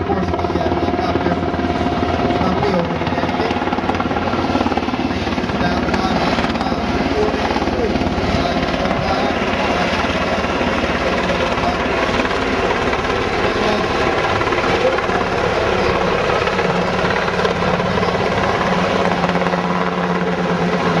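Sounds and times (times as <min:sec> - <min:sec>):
helicopter rotor chop and turbines: 0:00.0 - 0:21.0.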